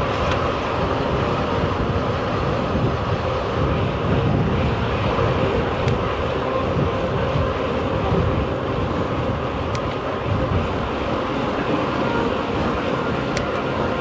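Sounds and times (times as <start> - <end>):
bicycle tyres rolling on tarmac: 0.0 - 14.0
wind rushing over microphone: 0.0 - 14.0.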